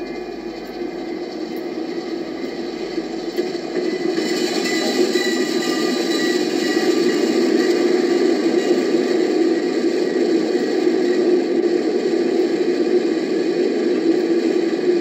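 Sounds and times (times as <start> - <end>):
steam train passing: 0.0 - 15.0.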